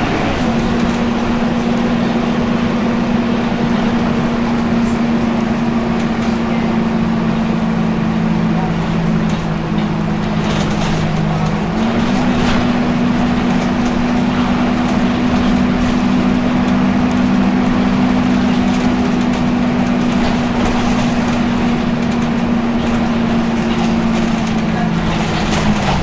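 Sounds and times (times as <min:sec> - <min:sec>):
bus engine idling: 0:00.0 - 0:26.0
engine cooling fan hum: 0:00.0 - 0:26.0.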